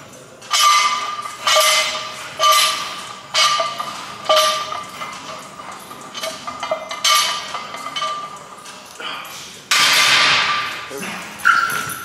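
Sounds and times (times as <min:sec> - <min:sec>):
barbell plates clinking: 0:00.0 - 0:12.0.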